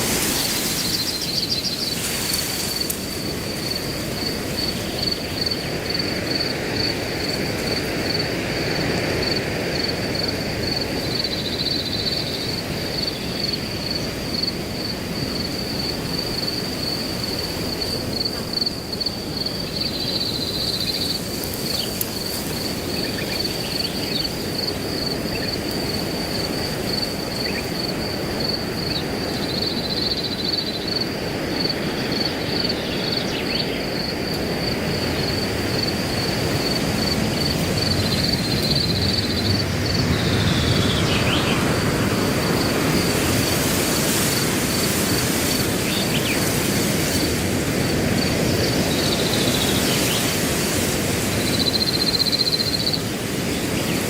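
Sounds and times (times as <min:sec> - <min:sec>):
cricket chirping trill: 0:00.0 - 0:54.0
wind rushing through grass: 0:00.0 - 0:54.0.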